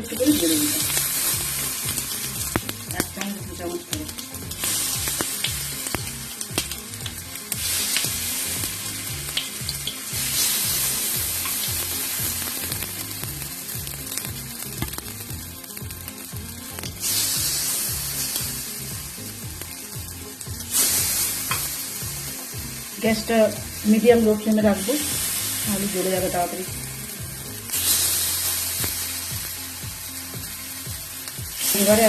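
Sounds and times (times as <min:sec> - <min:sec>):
batter sizzling in hot oil: 0:00.0 - 0:32.0.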